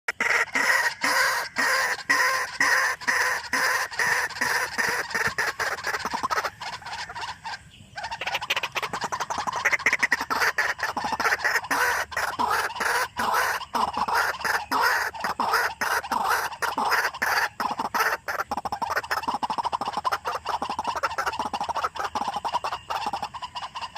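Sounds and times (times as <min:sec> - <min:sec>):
bird harsh croaking calls: 0:00.1 - 0:23.9.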